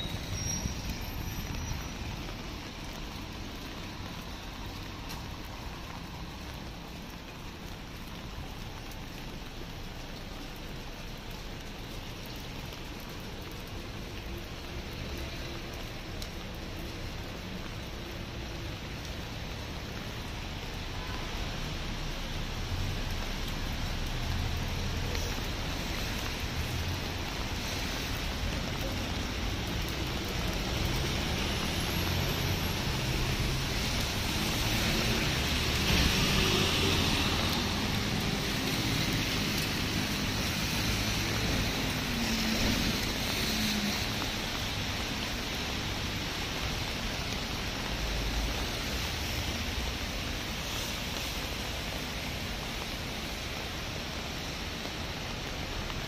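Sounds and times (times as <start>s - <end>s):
car tyres hissing on wet road: 0.0s - 56.0s
light rain on a street: 0.0s - 56.0s.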